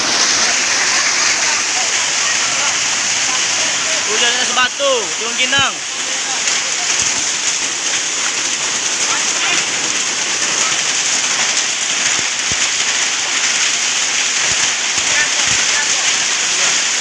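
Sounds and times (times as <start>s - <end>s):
hail and rain pelting down: 0.0s - 17.0s.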